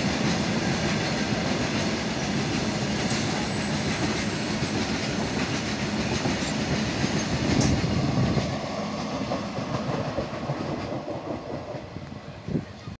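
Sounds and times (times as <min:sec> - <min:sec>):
train wheels clattering on rails: 0:00.0 - 0:12.2.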